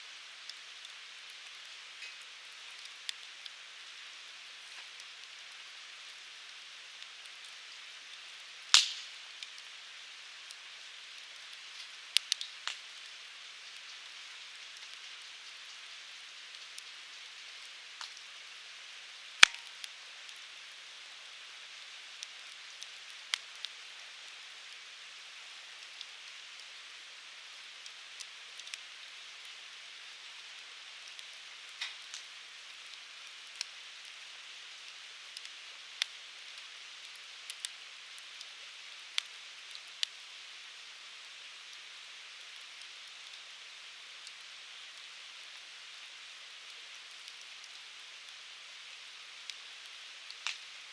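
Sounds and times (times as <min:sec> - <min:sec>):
firewood burning and crackling: 0:00.1 - 0:50.9.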